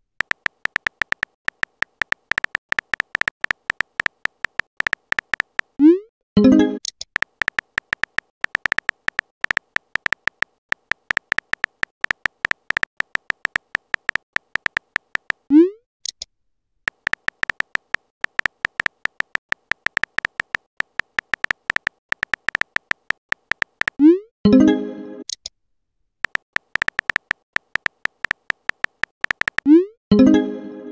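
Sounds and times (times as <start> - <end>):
phone keyboard typing clicks: 0.2 - 5.8, 6.9 - 15.5, 16.9 - 24.1, 26.2 - 29.8.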